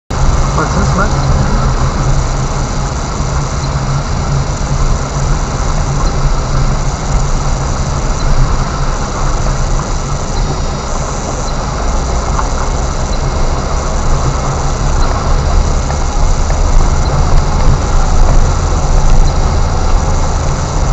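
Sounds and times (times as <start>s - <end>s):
low engine hum: 0.1s - 20.9s
tyres rumbling on dirt road: 0.1s - 20.9s.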